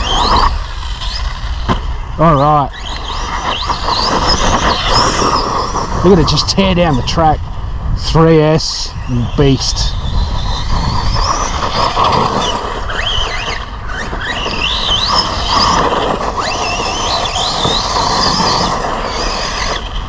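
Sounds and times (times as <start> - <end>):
electric motor whining: 0.0 - 8.3, 9.0 - 20.0
rushing tyres and wind: 0.0 - 20.0.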